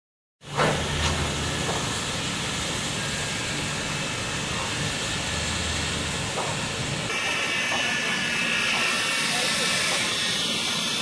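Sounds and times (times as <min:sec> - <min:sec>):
steam locomotive hissing steam: 0:00.4 - 0:11.0.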